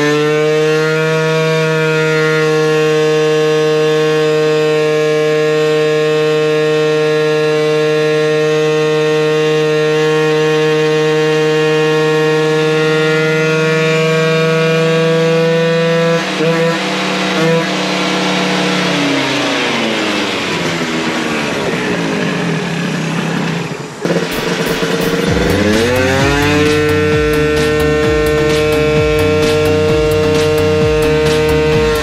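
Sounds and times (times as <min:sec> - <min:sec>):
two-stroke scooter engine revving: 0:00.0 - 0:32.0.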